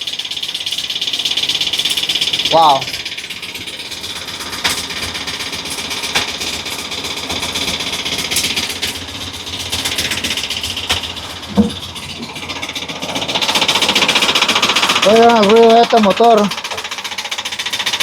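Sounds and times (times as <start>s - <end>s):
engine idling rough with clatter: 0.0s - 18.0s.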